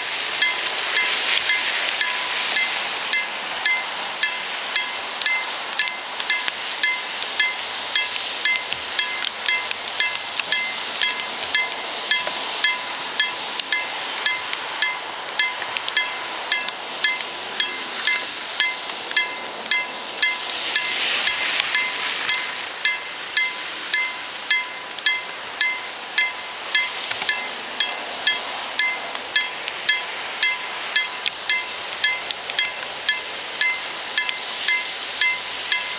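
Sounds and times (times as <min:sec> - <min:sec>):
railroad crossing bell ringing: 0:00.0 - 0:35.9
rushing hiss: 0:00.0 - 0:35.9.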